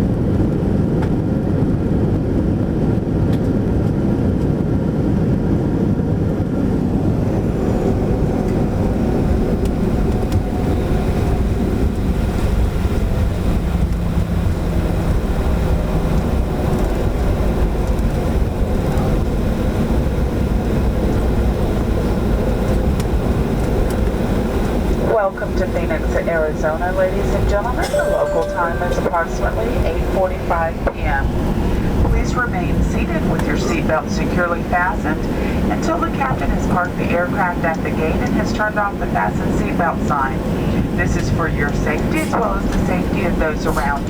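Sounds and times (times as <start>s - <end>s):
jet engines rumbling in cabin: 0.0s - 44.0s.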